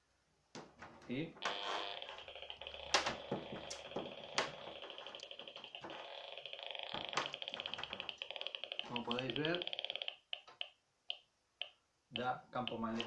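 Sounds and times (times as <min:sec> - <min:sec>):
meter buzz of rapid ticks: 0:01.4 - 0:11.8, 0:12.6 - 0:13.0.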